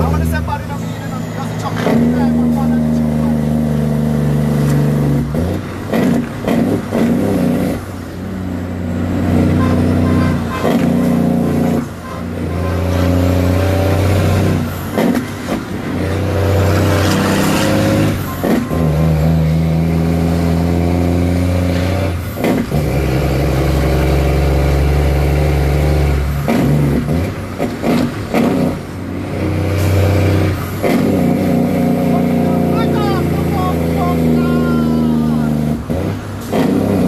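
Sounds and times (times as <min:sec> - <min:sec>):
truck diesel engine under load: 0:00.0 - 0:37.0.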